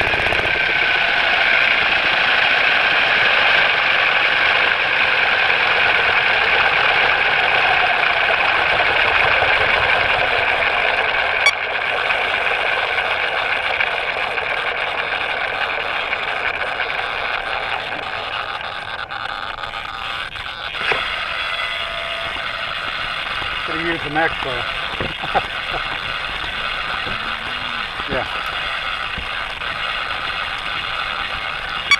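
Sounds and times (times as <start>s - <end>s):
rc helicopter rotor whirring: 0.0s - 31.9s.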